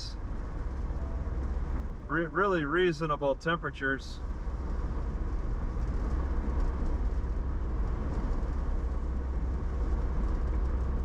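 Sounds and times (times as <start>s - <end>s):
car engine noise: 0.0s - 11.0s
road and tyre rumble: 0.0s - 11.0s.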